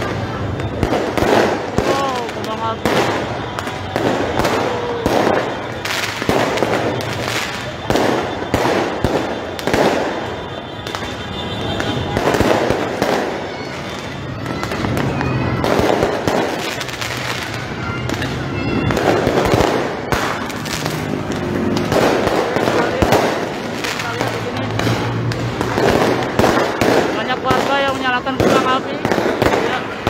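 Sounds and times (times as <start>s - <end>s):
fireworks bangs and crackles: 0.0s - 30.0s
street din: 0.0s - 30.0s.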